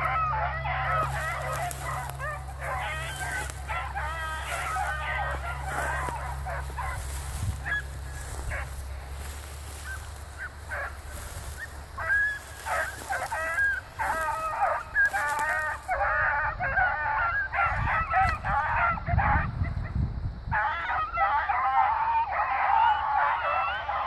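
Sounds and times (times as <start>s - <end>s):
hounds baying: 0.0s - 24.0s.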